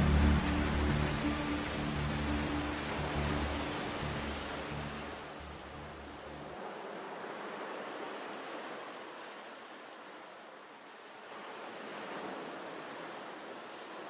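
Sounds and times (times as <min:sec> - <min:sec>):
small waves washing up beach: 0:00.0 - 0:14.0.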